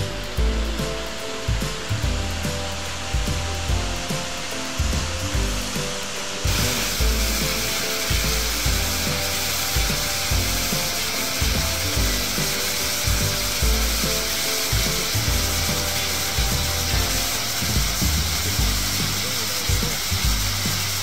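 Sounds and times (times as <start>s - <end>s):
music with pulsing bass: 0.0s - 21.0s
waterfall rushing: 4.1s - 21.0s.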